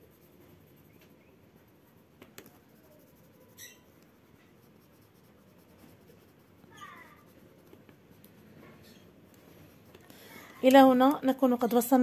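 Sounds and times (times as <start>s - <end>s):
pencil scratching on paper: 0.0s - 10.5s.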